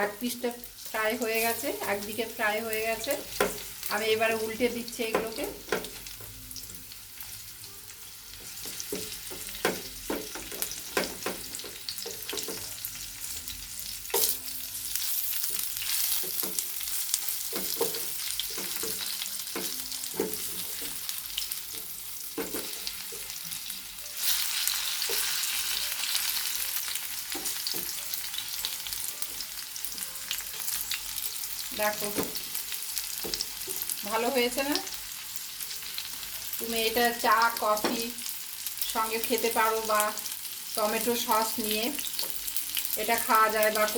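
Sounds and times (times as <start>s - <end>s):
fritters sizzling in hot oil: 0.0s - 43.9s.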